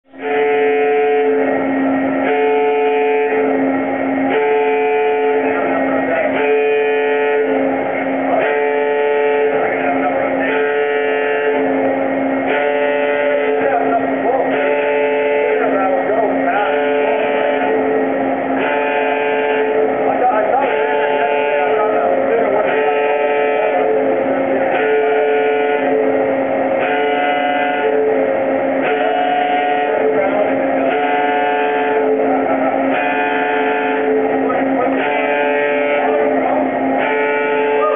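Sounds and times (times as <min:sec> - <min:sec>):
machine noise: 0:00.0 - 0:37.9
two-tone warning alarm: 0:00.0 - 0:37.9.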